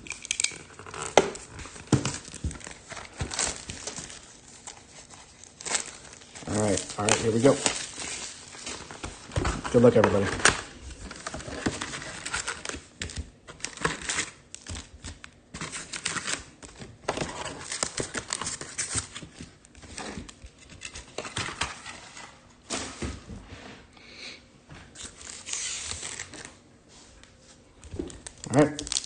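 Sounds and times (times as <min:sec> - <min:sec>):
foil wrappers crinkling and tearing: 0:00.0 - 0:22.3, 0:24.9 - 0:26.6, 0:27.8 - 0:29.0.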